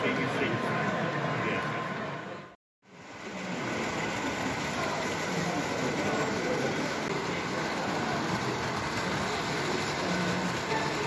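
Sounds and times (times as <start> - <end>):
background hubbub: 0.0 - 11.0
model train running: 0.0 - 11.0.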